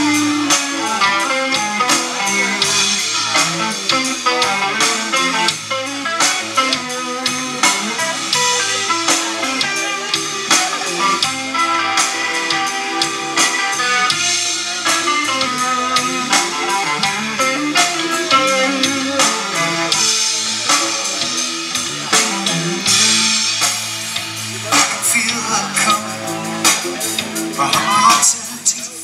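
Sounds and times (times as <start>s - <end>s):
electric bass: 0.0s - 28.6s
drum kit: 0.0s - 29.0s
electric guitar: 0.0s - 29.0s.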